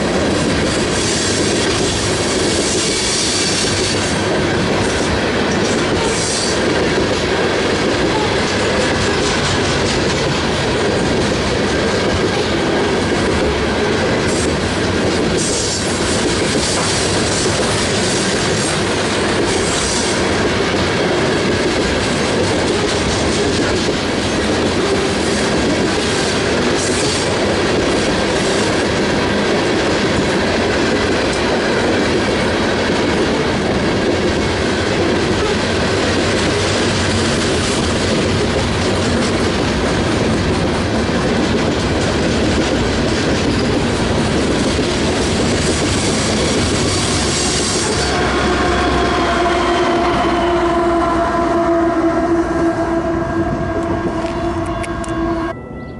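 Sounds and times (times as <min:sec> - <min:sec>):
train wheels clattering over rails: 0:00.0 - 0:50.8.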